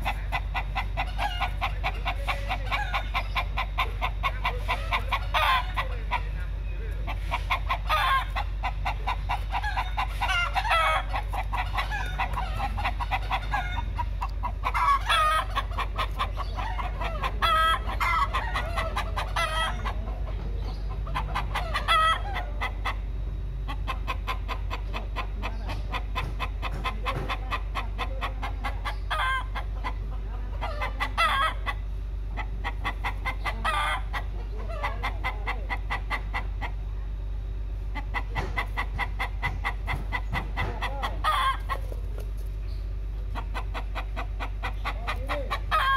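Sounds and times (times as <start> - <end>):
rooster calling: 0.0 - 6.4, 7.1 - 23.0, 23.7 - 31.8, 32.4 - 36.8, 37.9 - 42.0, 43.3 - 45.9
hen clucking: 0.0 - 45.9
steady low hum: 0.0 - 45.9.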